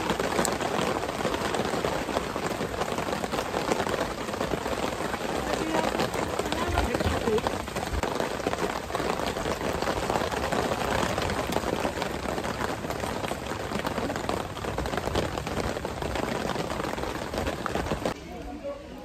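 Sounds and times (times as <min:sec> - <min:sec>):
rain on a plastic tarp: 0:00.0 - 0:19.0.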